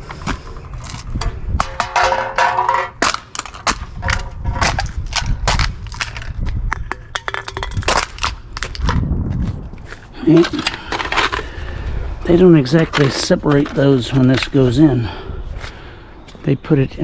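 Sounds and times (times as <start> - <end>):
debris crunching and clattering: 0.0 - 11.8, 12.6 - 14.8.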